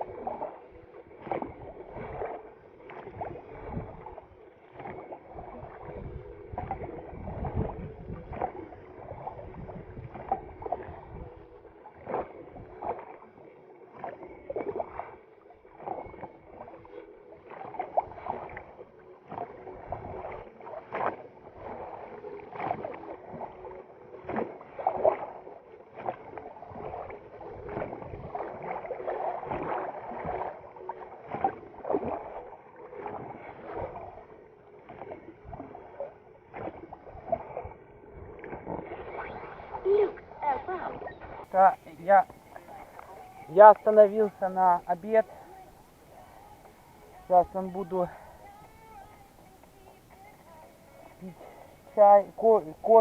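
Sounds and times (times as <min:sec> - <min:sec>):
rowing splashes: 0:00.0 - 0:53.0.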